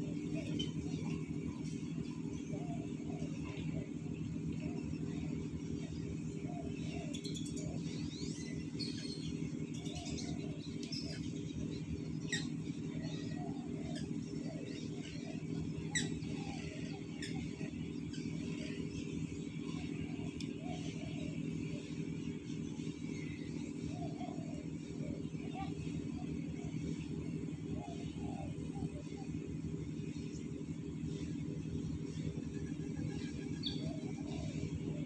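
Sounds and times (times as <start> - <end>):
small birds chirping: 0.0 - 35.0
steady low hum: 0.0 - 35.0.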